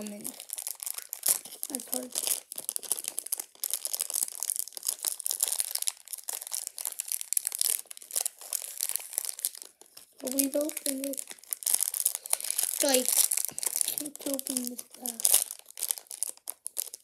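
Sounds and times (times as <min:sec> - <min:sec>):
plastic packaging crinkling and tearing: 0:00.0 - 0:17.0.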